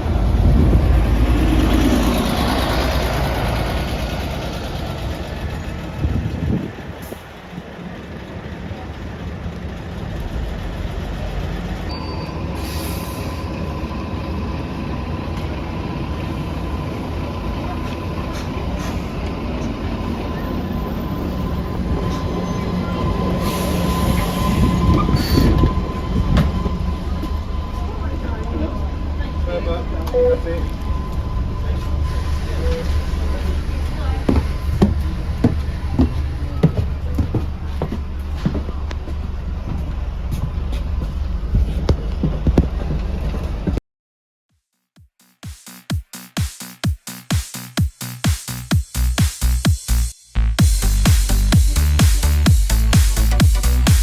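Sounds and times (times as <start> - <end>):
bus engine and road rumble: 0.0 - 43.8.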